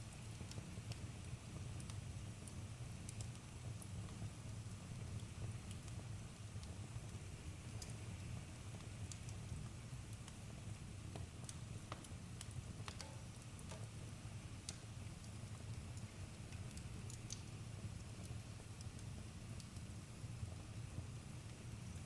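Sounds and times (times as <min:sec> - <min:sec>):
fire pops and snaps: 0:00.1 - 0:20.7
campfire crackling: 0:00.2 - 0:20.6.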